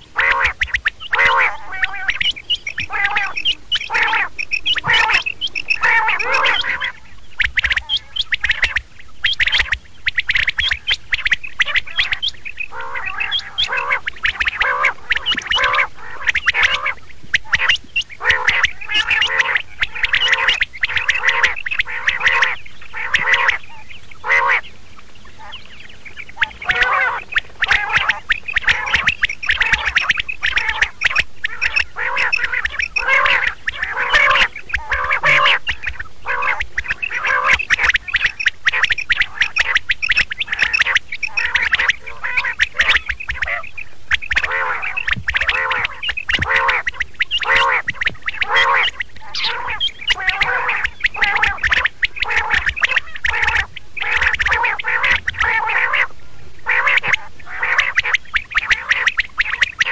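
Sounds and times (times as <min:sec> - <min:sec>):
quail calling: 0:00.0 - 0:59.9.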